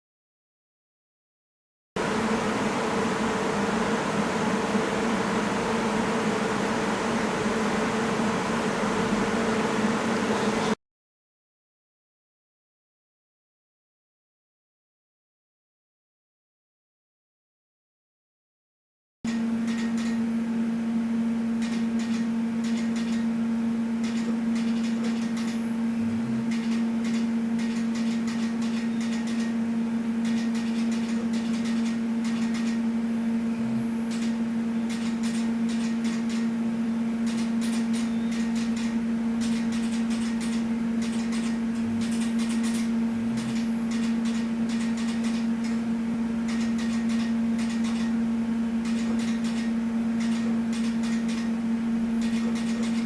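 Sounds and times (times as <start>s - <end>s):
machine electrical hum: 2.0s - 10.8s, 19.3s - 53.0s.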